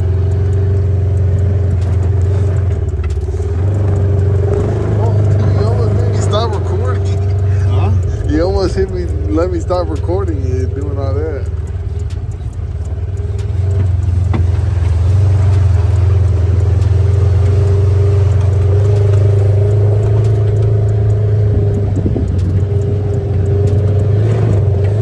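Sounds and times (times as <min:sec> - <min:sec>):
vehicle engine drone and whine: 0:00.0 - 0:25.0.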